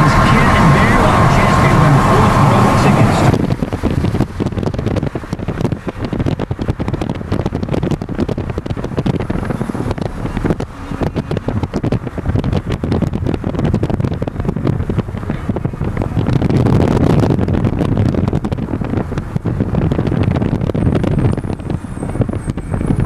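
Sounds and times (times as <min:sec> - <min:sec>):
car road noise at highway speed: 0:00.0 - 0:23.0
wind buffeting microphone: 0:00.0 - 0:23.0.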